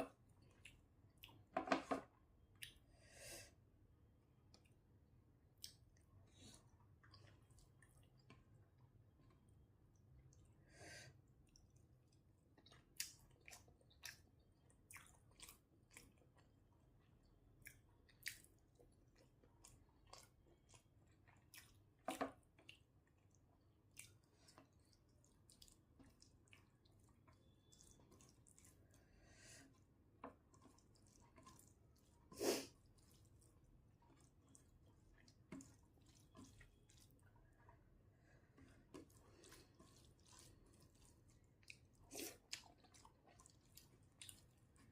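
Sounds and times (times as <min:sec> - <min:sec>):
person chewing food: 0:00.0 - 0:01.5, 0:02.4 - 0:02.9, 0:04.5 - 0:10.6, 0:11.3 - 0:44.9.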